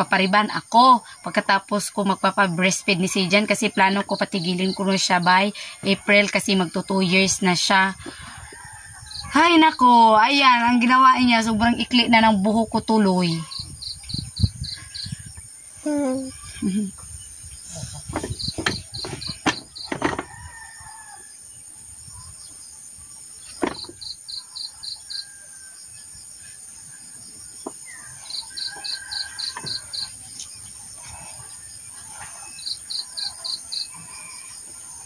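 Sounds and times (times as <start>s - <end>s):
insect chirping trills: 0.0s - 35.0s.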